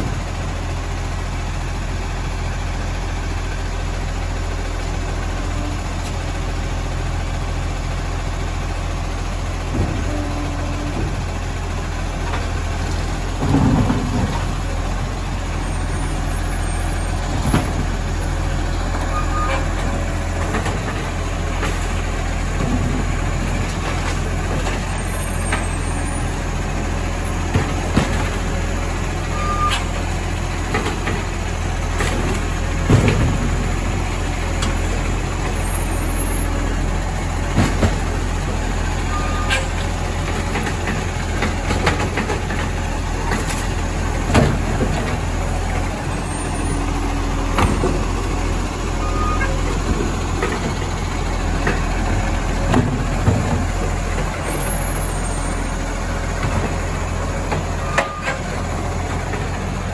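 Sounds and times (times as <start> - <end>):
garbage truck diesel engine running: 0.0 - 59.9.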